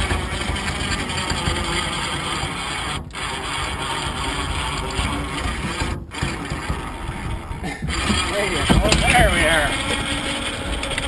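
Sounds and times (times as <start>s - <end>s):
electric winch running: 0.0s - 11.0s
log scraping: 0.0s - 11.0s.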